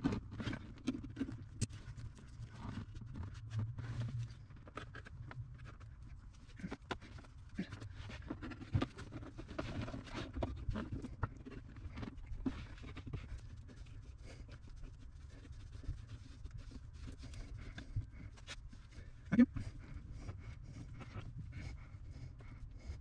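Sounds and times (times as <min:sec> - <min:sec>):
faint scratching and tapping: 0:00.0 - 0:23.0.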